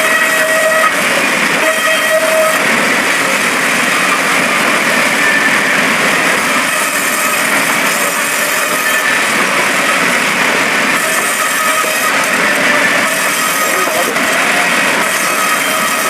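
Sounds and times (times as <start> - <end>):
band sawmill running: 0.0 - 16.0.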